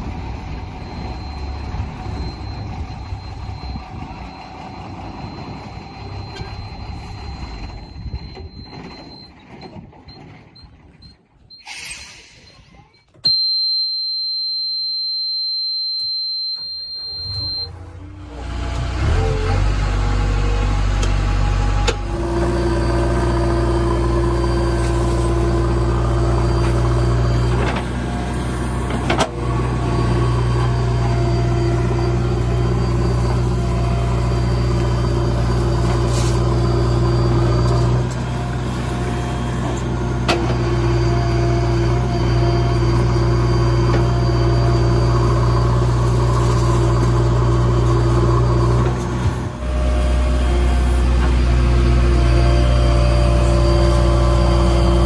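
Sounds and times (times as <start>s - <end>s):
diesel engine running: 0.0s - 11.6s, 14.4s - 55.0s.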